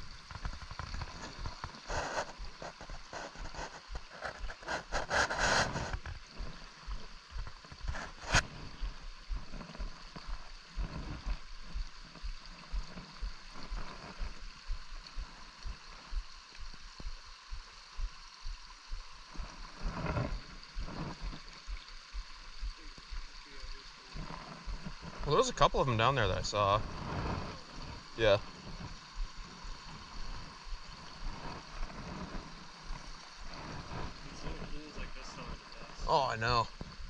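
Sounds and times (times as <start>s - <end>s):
brook water running: 0.0s - 37.0s.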